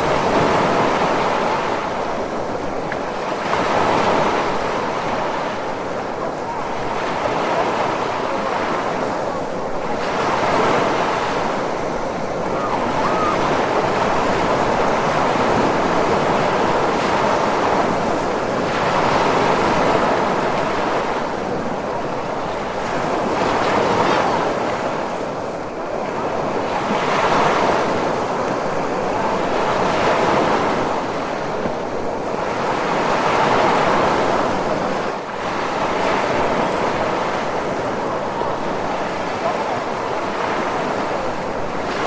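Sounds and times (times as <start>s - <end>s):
ocean waves washing in: 0.0s - 42.0s.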